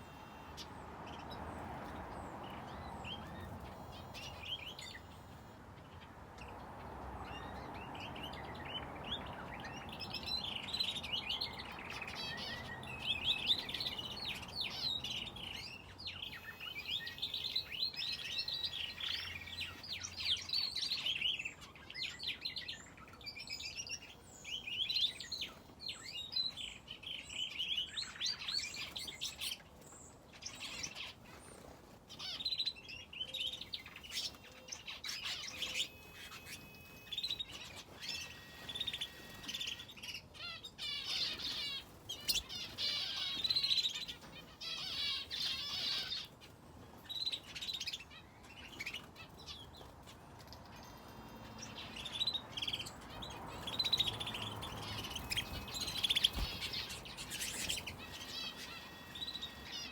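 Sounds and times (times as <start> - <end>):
finches and canary chirping: 0.0 - 59.9.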